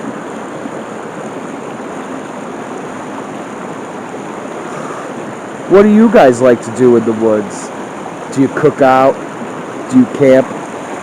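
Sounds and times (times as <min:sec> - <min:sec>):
stream splashing over rocks: 0:00.0 - 0:11.0.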